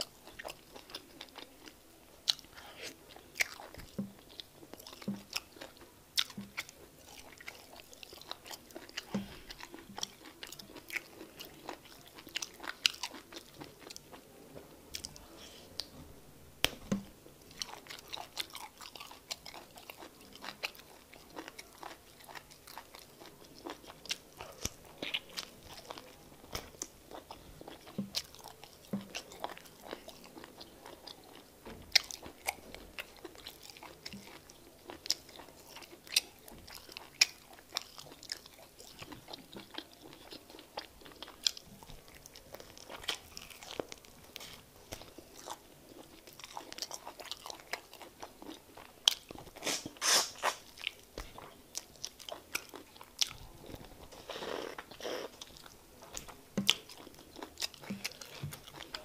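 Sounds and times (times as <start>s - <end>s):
wet chewing: 0.0s - 14.2s, 16.6s - 59.0s.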